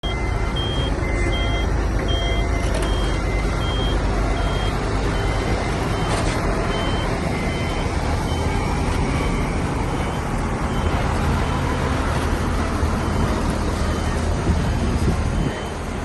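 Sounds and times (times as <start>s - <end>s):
reversing alarm beeping: 0.0s - 12.2s, 12.8s - 16.0s
heavy machinery rumbling: 0.0s - 16.0s.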